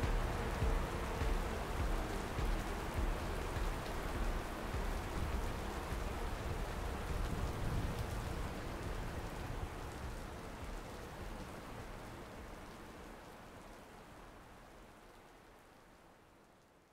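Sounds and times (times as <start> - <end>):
steady rain patter: 0.0 - 16.9.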